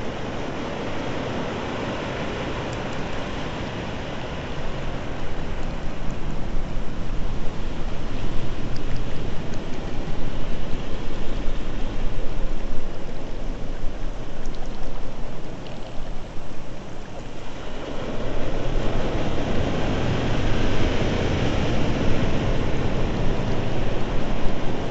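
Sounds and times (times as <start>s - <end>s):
small waves on shore: 0.0s - 24.9s
wind: 0.0s - 24.9s.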